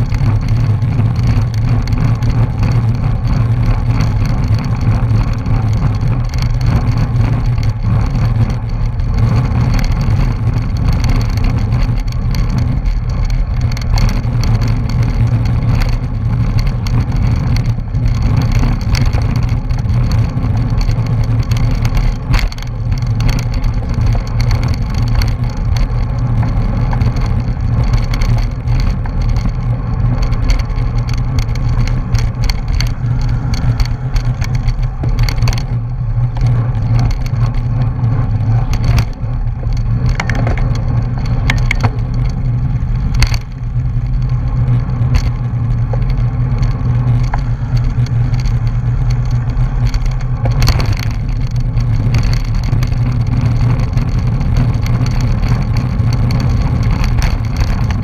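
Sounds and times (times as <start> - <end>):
bicycle knocks and rattles: 0.0 - 58.0
road rumble: 0.0 - 58.0.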